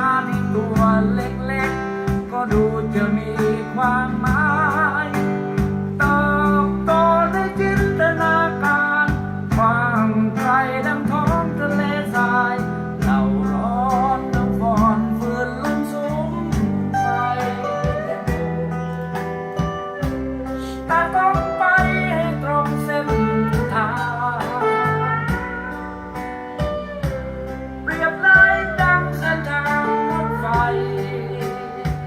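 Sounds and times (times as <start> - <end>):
bass notes: 0.0 - 32.0
person singing with vibrato: 0.0 - 32.0
strummed acoustic guitar: 0.0 - 32.0.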